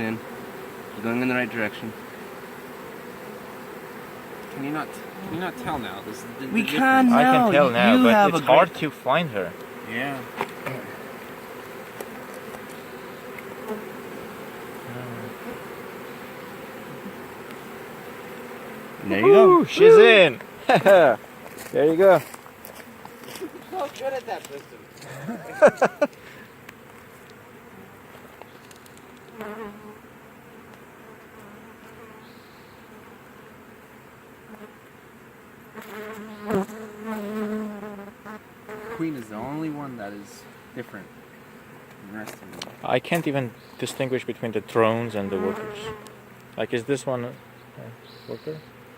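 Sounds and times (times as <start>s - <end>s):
bee swarm buzzing: 0.0s - 48.9s.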